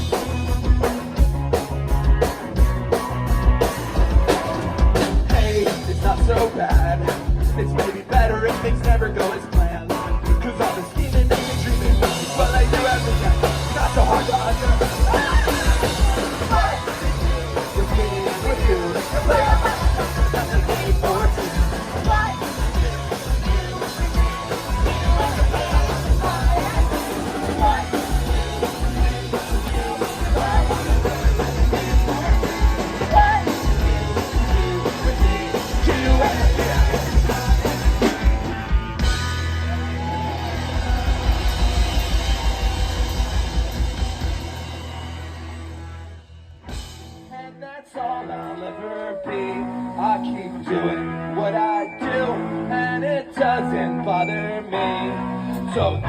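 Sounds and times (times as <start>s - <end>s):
drum kit fast beat: 0.0s - 45.8s
punk rock band playing: 0.0s - 56.0s.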